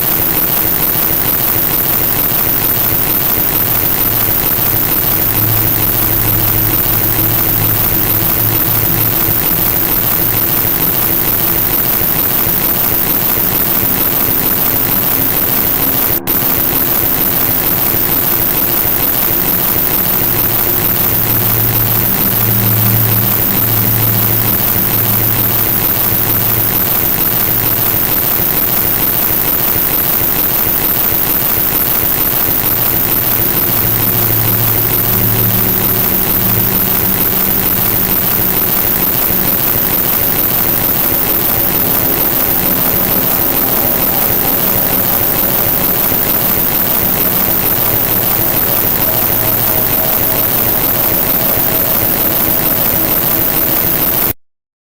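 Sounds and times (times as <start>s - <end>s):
low hum: 0.0s - 54.3s.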